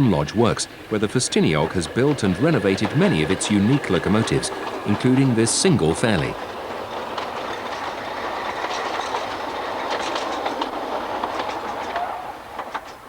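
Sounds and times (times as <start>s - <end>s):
train running past: 0.0s - 13.0s
wheels clicking over rail joints: 0.0s - 13.0s.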